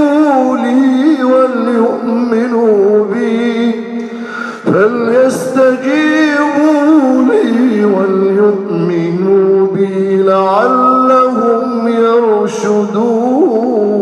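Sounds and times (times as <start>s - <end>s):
man reciting in long sung notes: 0.0s - 14.0s.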